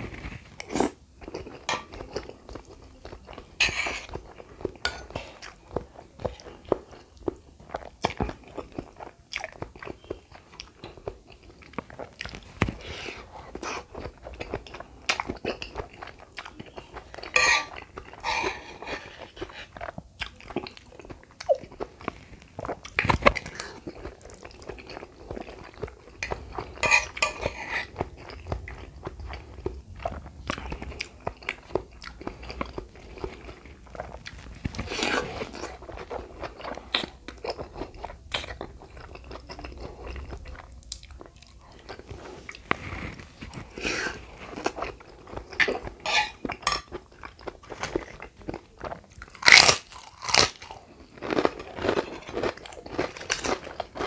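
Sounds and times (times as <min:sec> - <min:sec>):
food crunching: 0:00.0 - 0:54.0
wet chewing and smacking: 0:00.0 - 0:54.0.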